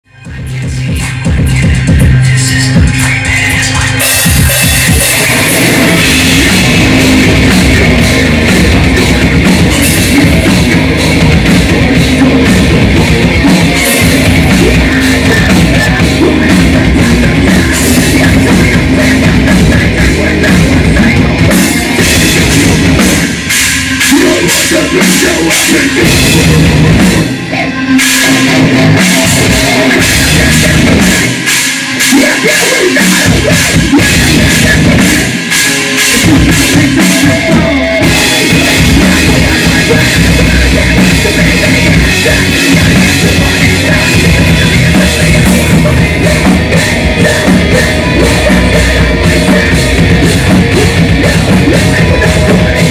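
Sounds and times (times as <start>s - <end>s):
distorted electric guitars: 0.0s - 52.9s
drum kit: 0.1s - 52.9s.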